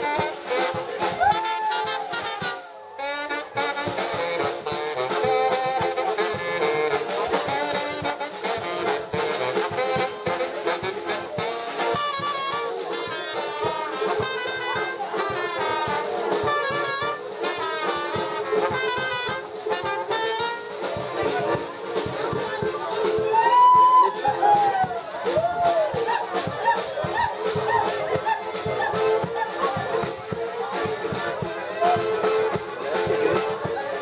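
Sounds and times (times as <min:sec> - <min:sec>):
brass band playing: 0:00.0 - 0:34.0.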